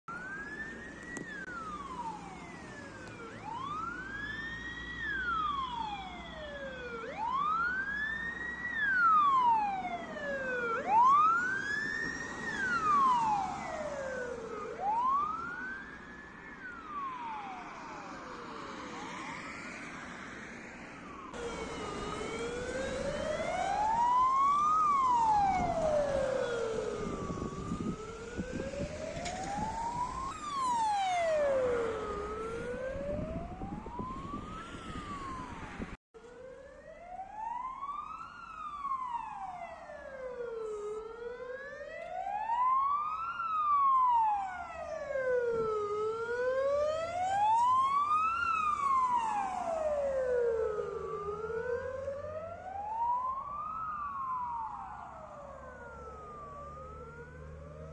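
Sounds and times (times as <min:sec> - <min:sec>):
ambulance siren wailing: 0:00.0 - 0:57.9
road noise: 0:00.1 - 0:57.9.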